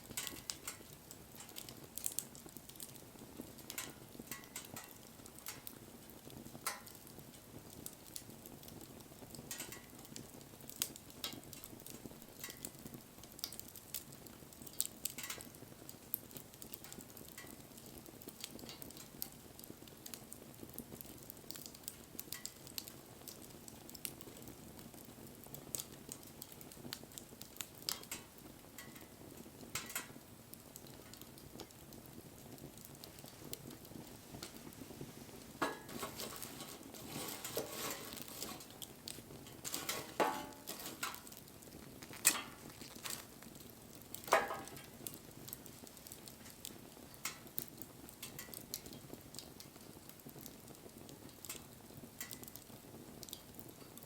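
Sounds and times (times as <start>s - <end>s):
campfire crackling and popping: 0.0s - 54.0s
soft hiss of burning: 0.0s - 54.0s.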